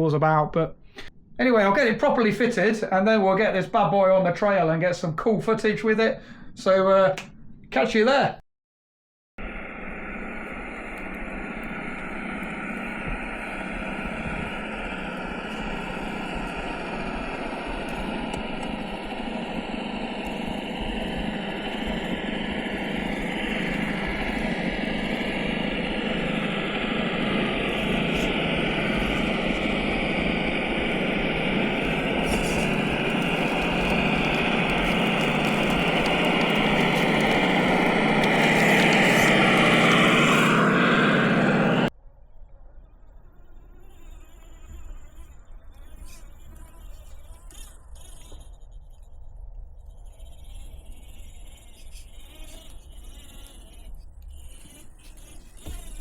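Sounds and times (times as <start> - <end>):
simulated engine sound from small speaker: 9.4 - 56.0.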